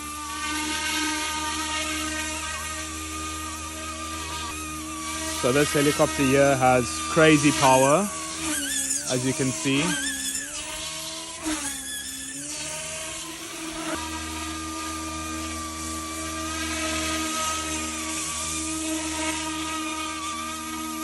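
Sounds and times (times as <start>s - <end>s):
rc helicopter motor whining: 0.0s - 21.0s.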